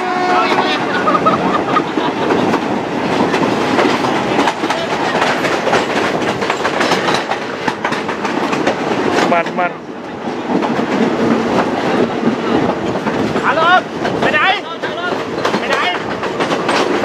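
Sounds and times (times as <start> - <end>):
train rolling noise: 0.0 - 17.0
wheels clattering over rail joints: 0.4 - 17.0.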